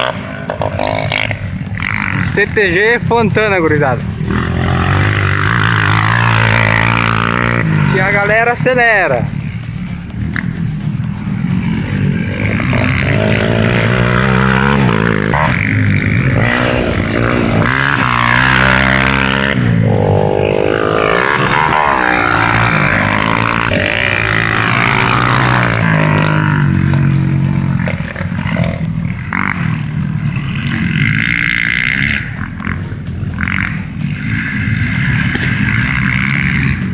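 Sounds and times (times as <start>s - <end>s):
dirt bike engines revving: 0.0s - 36.9s.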